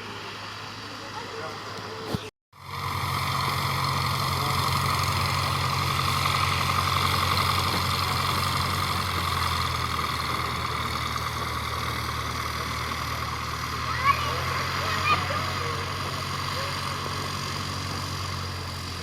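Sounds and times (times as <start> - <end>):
propeller plane engine running: 0.0 - 19.0.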